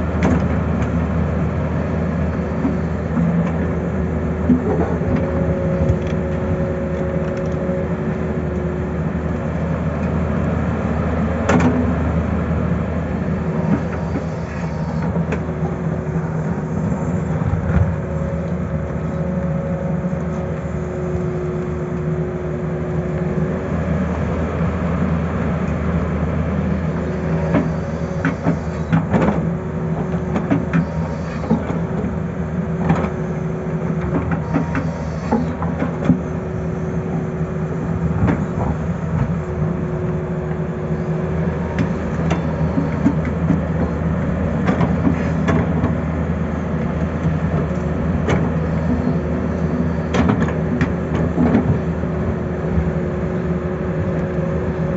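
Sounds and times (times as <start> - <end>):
excavator diesel engine running: 0.0 - 54.9
hydraulic whine: 0.0 - 54.9.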